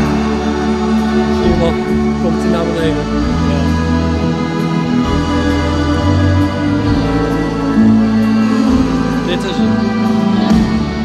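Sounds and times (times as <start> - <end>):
live band sustained chords: 0.0 - 11.0.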